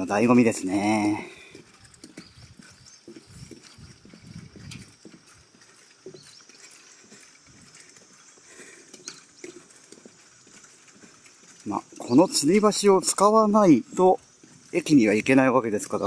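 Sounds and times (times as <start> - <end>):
footsteps on bridge deck: 0.0 - 16.0.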